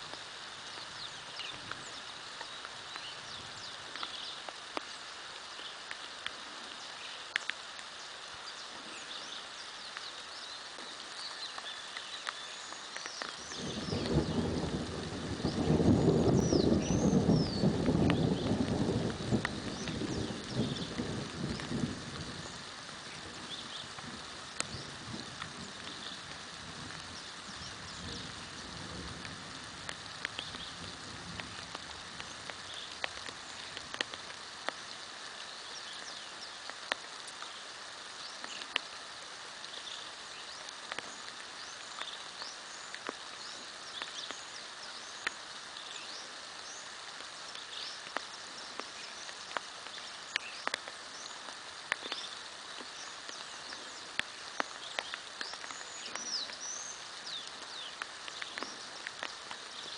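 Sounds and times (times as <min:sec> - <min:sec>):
sharp raindrops landing close: 0:00.0 - 0:59.9
steady rain falling: 0:00.0 - 0:59.9
small birds chirping: 0:00.1 - 0:59.9.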